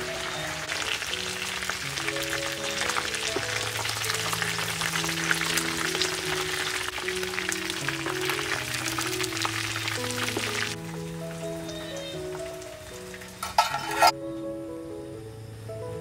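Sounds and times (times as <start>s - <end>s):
food frying in bubbling oil: 0.0s - 14.1s
soft background music: 0.0s - 16.0s.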